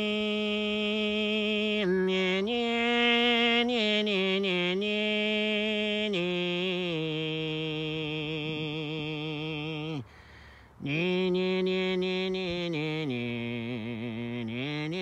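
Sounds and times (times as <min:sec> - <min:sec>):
slow chant-like melody: 0:00.0 - 0:15.0.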